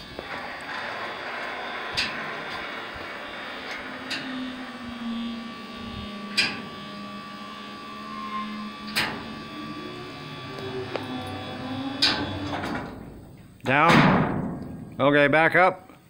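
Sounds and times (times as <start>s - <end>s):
electric motor humming: 0.0s - 13.0s.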